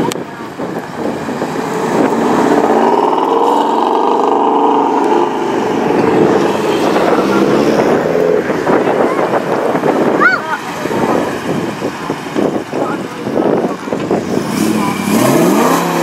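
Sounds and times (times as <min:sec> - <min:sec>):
car engine running loudly: 0:00.0 - 0:16.0.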